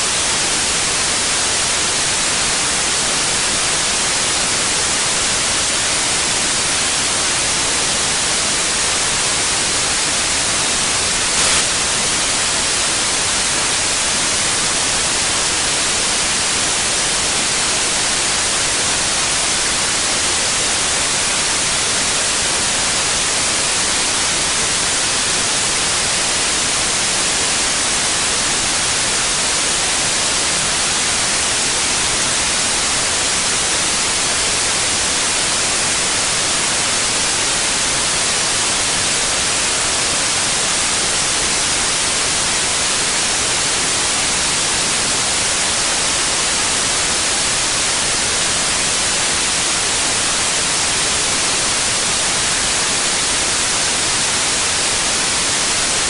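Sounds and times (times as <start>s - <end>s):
synthetic white noise hiss: 0.0s - 56.0s.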